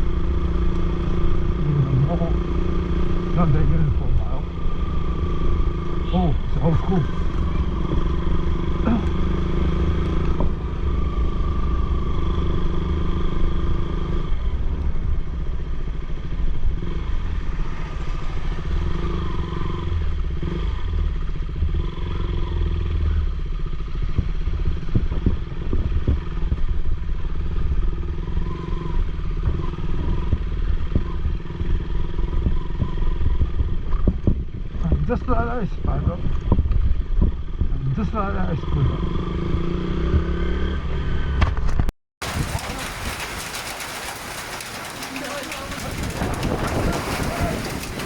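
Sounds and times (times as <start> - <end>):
low road rumble: 0.0 - 48.0
motorcycle engine running: 0.0 - 48.0.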